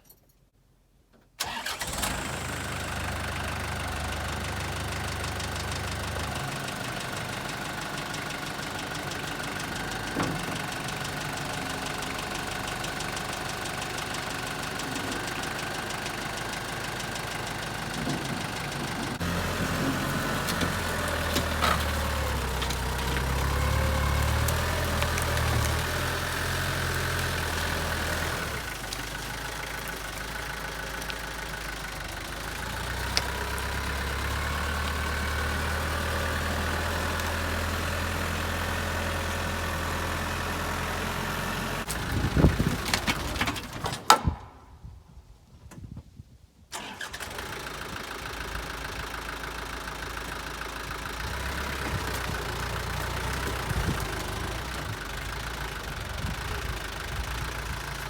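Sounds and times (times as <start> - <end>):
mini excavator engine running: 1.4 - 44.3, 46.8 - 58.0.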